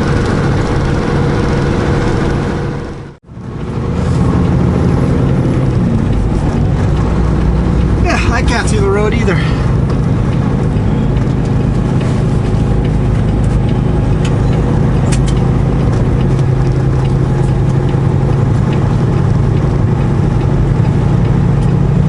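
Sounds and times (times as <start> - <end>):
truck diesel engine running: 0.0 - 22.0.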